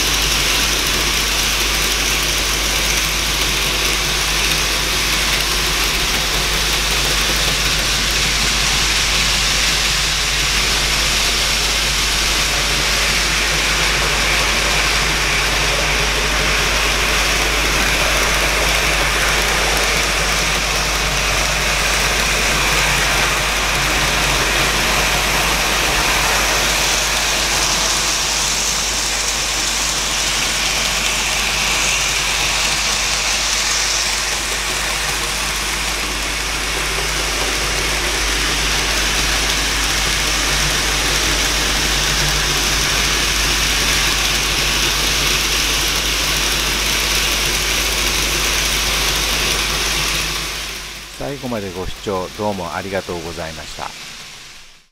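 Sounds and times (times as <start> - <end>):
model train motor whirring: 0.0 - 54.8
wheels rolling on rails: 0.0 - 54.8.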